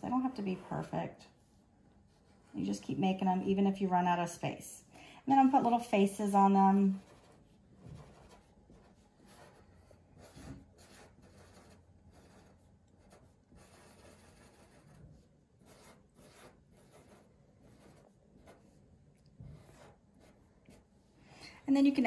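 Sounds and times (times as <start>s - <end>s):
marker scratching on paper: 0.0s - 3.5s, 5.4s - 21.1s.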